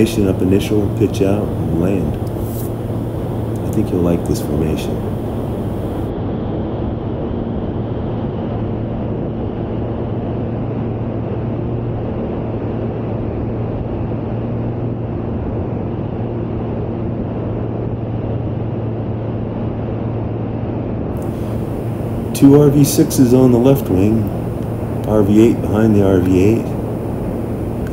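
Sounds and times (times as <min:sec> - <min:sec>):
light aircraft engine drone: 0:00.0 - 0:27.9.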